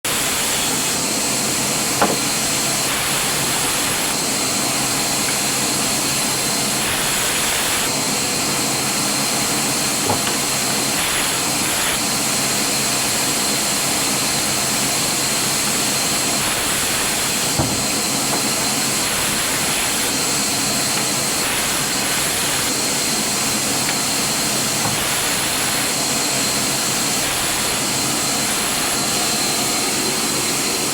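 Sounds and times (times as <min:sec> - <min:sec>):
rushing hissing machine noise: 0:00.1 - 0:30.9.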